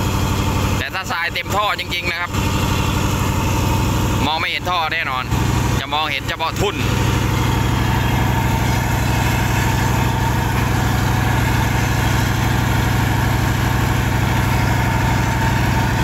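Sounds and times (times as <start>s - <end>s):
dredge engine running steadily: 0.0s - 16.0s.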